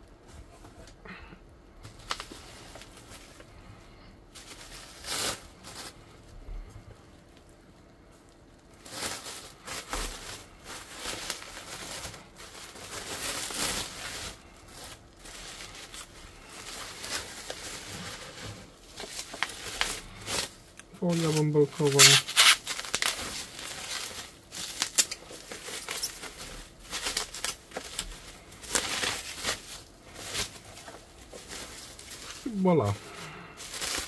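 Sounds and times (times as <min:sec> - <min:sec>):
plastic film crinkling: 0:01.8 - 0:34.0.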